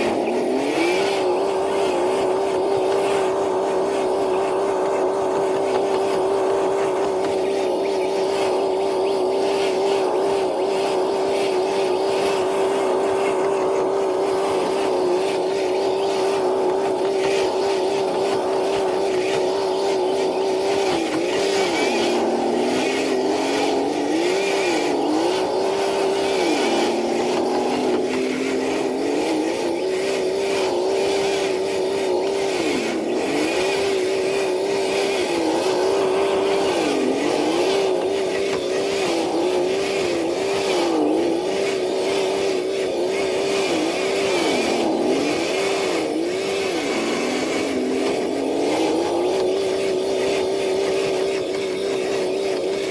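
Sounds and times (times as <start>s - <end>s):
electric motor whining: 0.0s - 52.9s.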